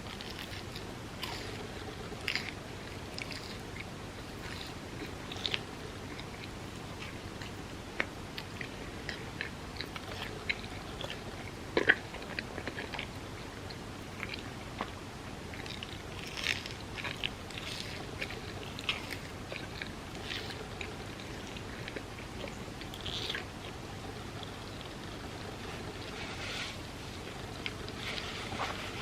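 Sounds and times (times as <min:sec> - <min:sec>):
chewing with wet mouth clicks: 0:00.0 - 0:29.0.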